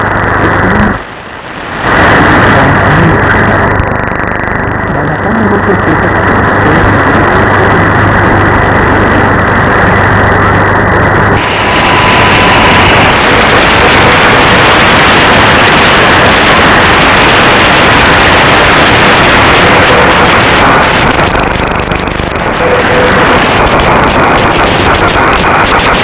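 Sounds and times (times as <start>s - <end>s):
radio static and hiss: 0.0s - 26.0s
rapid clicking interference: 0.0s - 26.0s.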